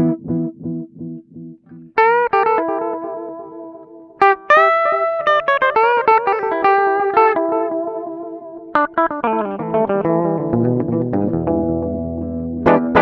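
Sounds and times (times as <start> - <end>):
guitar with echo repeats: 0.0 - 13.0.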